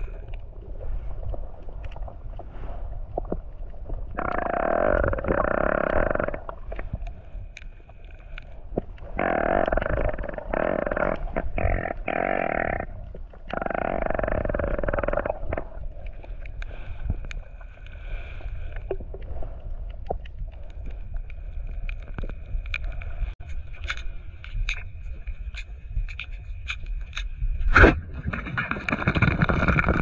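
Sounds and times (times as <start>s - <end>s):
faint clicking and crackle: 0.0s - 30.0s
underwater bubbling: 0.0s - 30.0s.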